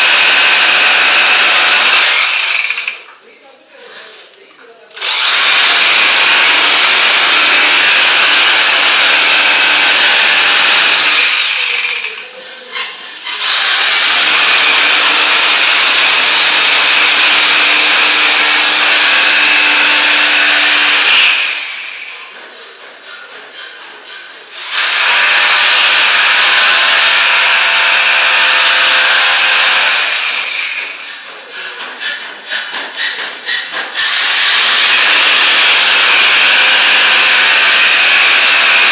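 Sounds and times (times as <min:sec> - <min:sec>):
power tool running: 0:00.0 - 0:03.0, 0:05.0 - 0:12.2, 0:13.2 - 0:22.2, 0:24.5 - 0:31.2, 0:33.5 - 0:38.9.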